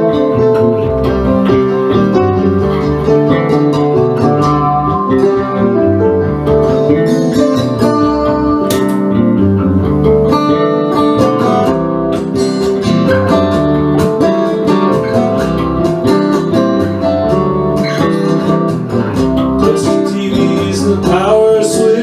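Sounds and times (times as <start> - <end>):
guitar strummed and plucked: 0.0 - 22.0.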